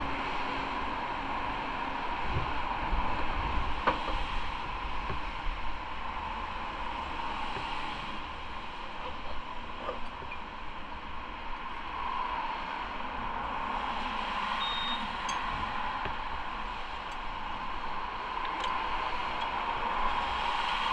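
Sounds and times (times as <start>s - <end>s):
wind and road noise: 0.0s - 20.9s
low wind buffeting: 0.1s - 20.9s.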